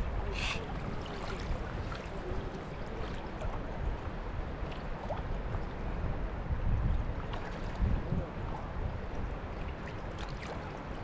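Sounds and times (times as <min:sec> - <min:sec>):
fast river water rushing: 0:00.0 - 0:11.0.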